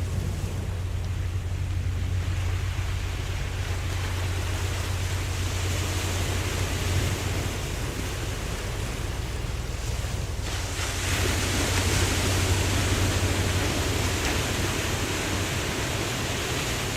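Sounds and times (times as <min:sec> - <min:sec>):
ocean waves washing: 0:00.0 - 0:16.9
steady low rumble: 0:00.0 - 0:16.9.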